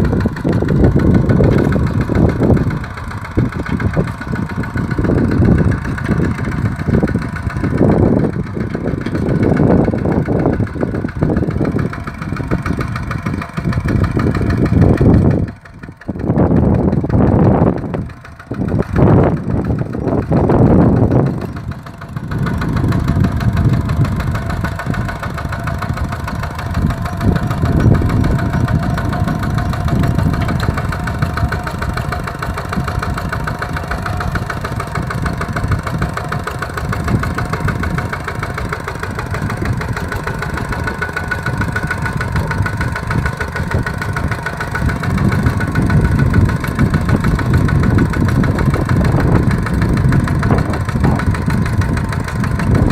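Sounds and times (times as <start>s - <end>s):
single-cylinder diesel engine running: 0.0s - 52.9s.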